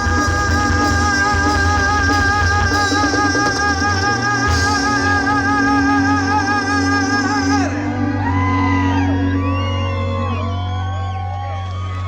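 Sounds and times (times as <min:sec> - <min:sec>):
band music: 0:00.0 - 0:12.0.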